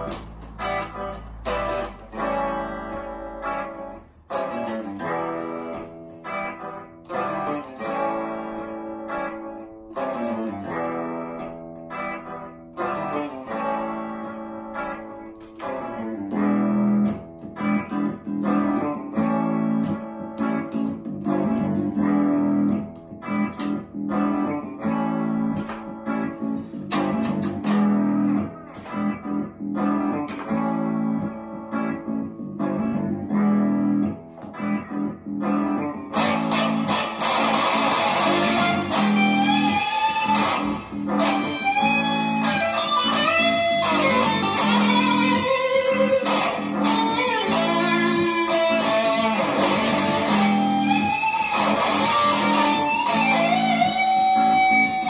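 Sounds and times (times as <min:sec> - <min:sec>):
electric guitar rhythm chords: 0:00.0 - 0:55.0
guitar lead with bent notes: 0:00.0 - 0:55.0.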